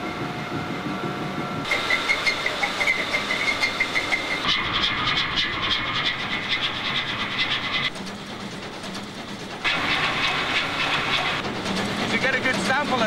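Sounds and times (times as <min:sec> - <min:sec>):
large diesel engine running: 0:00.0 - 0:13.0.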